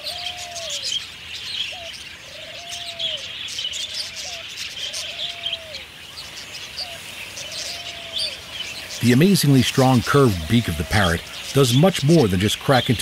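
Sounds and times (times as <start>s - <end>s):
bird cooing call: 0.0s - 13.0s
small birds chirping: 0.0s - 13.0s.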